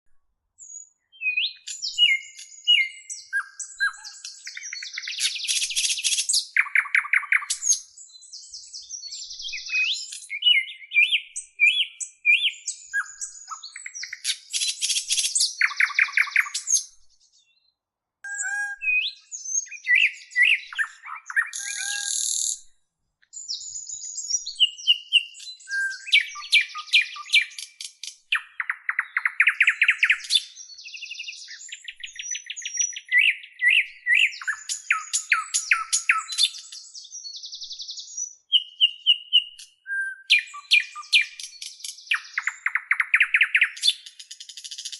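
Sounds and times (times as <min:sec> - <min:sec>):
small songbirds chirping and trilling: 0:00.5 - 0:44.9.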